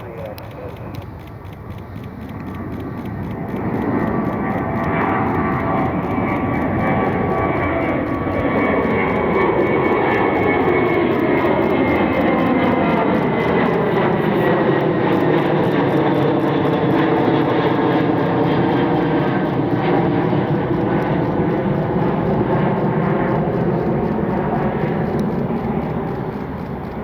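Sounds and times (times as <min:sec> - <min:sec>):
falling engine whine: 0:00.0 - 0:27.0
jet engines roaring: 0:00.0 - 0:27.0.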